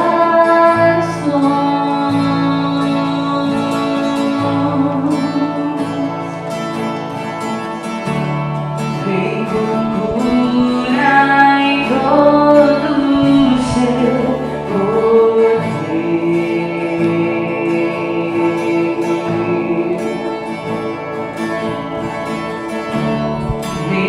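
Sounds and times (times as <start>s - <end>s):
person singing: 0.0s - 24.0s
worship band playing live: 0.0s - 24.0s.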